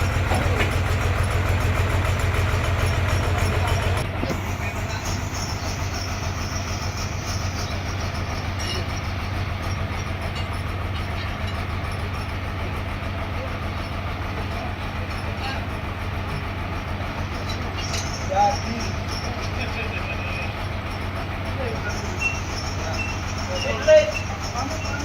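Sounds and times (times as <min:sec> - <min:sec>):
sawmill machinery deep hum: 0:00.0 - 0:25.0.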